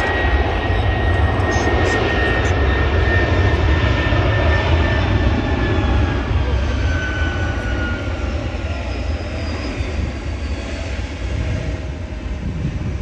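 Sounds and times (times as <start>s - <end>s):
high jet engine whine: 0.0s - 13.0s
jet engines rumbling: 0.0s - 13.0s.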